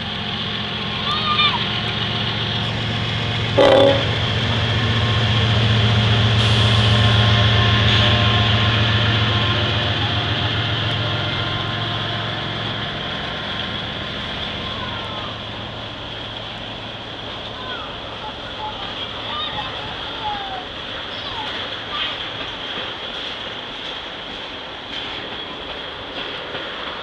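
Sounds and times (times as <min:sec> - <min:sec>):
locomotive engine drone: 0:00.0 - 0:22.6
train wheels rolling on rails: 0:00.0 - 0:27.0.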